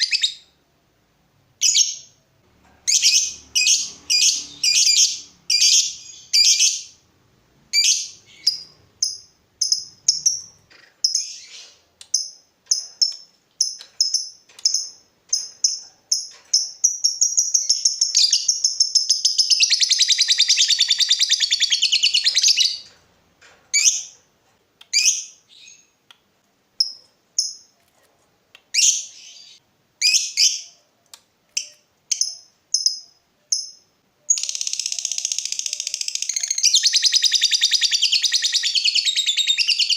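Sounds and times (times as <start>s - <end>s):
lovebird chirping and trilling: 0.0s - 0.6s, 1.6s - 2.2s, 2.8s - 7.0s, 7.7s - 22.9s, 23.7s - 24.2s, 24.9s - 25.9s, 28.7s - 30.8s, 31.6s - 39.9s.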